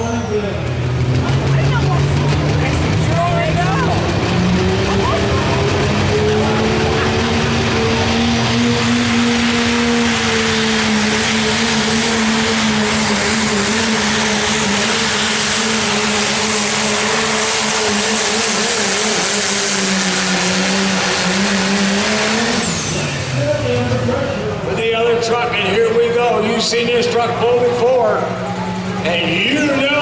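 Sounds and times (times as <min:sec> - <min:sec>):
diesel truck engine at full throttle: 0:00.0 - 0:30.0.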